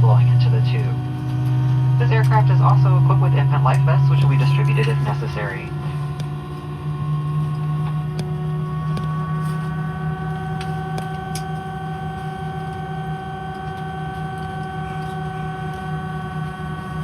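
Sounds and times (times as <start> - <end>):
airplane cabin droning hum: 0.0 - 17.0
steady whining tones: 0.0 - 17.0.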